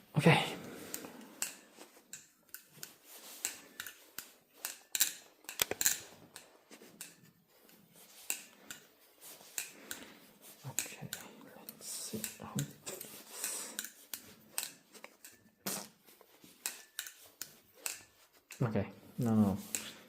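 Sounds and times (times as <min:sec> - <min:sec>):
metal knife clicks and scrapes: 0:01.0 - 0:15.5, 0:16.4 - 0:18.6.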